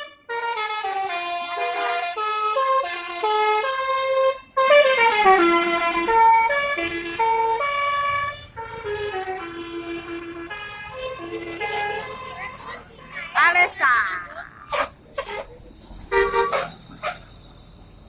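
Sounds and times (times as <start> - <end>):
bus horn playing a tune: 0.0 - 12.8, 14.7 - 17.4.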